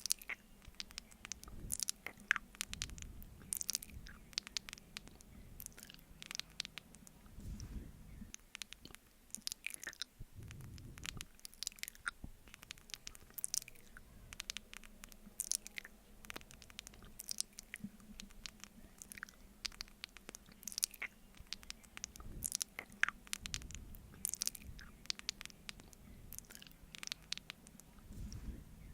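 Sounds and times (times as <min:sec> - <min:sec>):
wet sticky mouth smacks: 0:00.0 - 0:28.6.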